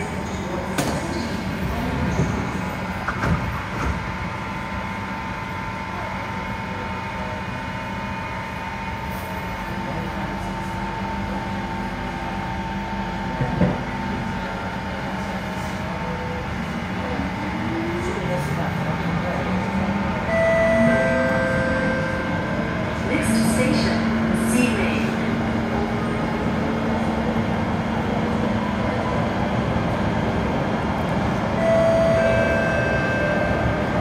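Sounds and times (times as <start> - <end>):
train equipment hum: 0.0 - 34.0.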